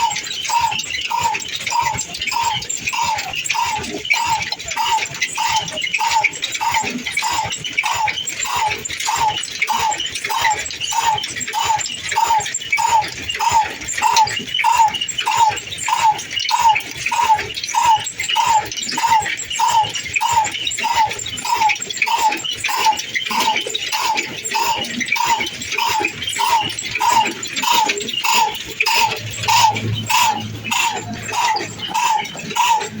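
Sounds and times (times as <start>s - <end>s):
diesel engine running slowly: 0.0s - 33.0s.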